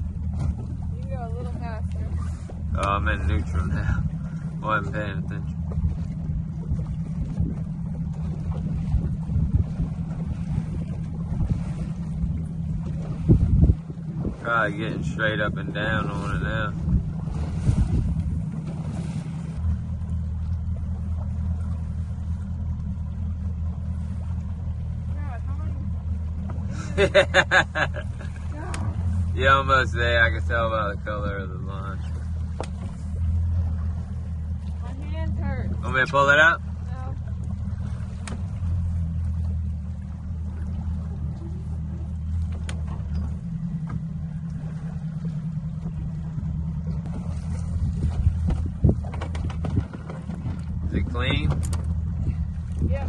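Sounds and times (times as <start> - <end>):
boat engine idling: 0.0 - 53.0.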